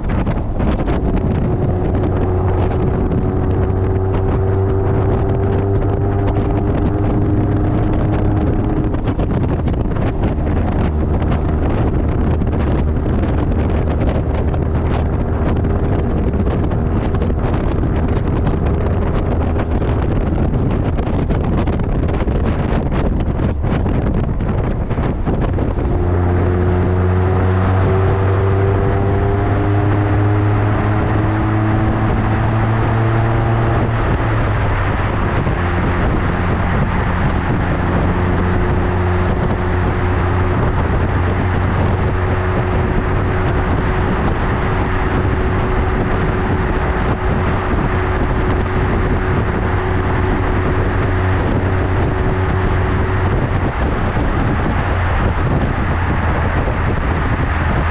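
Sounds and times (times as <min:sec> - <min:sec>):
motorcycle exhaust while riding: 0:00.0 - 0:57.9
wind noise on microphone: 0:00.0 - 0:57.9.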